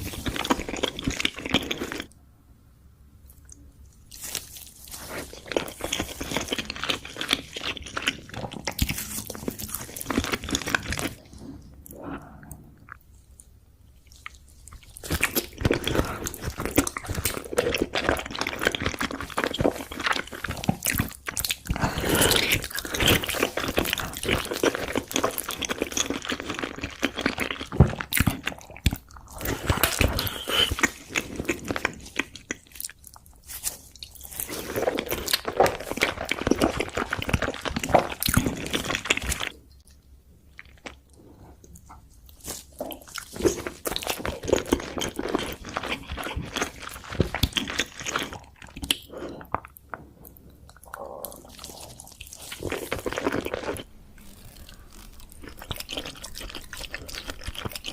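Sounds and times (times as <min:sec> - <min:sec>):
wet chewing and crunching: 0:00.0 - 0:02.2, 0:03.3 - 0:57.9.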